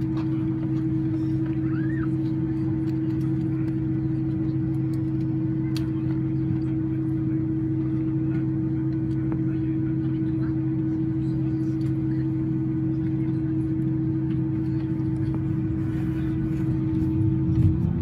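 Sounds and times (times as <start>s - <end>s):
aircraft cabin engine drone: 0.0s - 18.0s.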